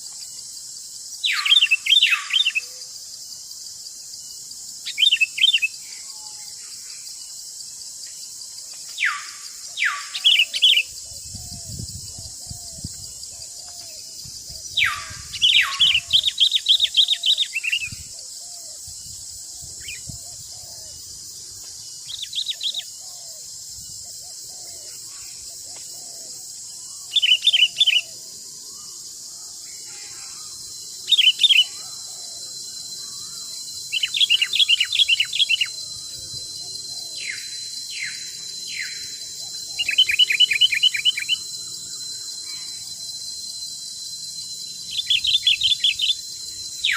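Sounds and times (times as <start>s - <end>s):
insects droning: 0.0s - 46.9s
songbirds singing: 0.0s - 46.9s.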